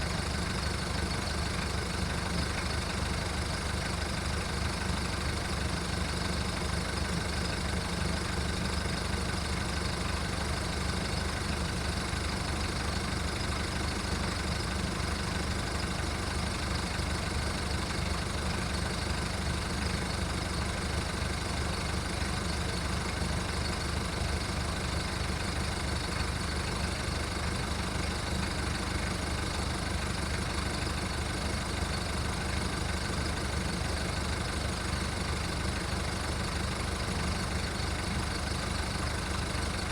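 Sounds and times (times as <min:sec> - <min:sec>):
diesel engine idling roughly: 0:00.0 - 0:39.9.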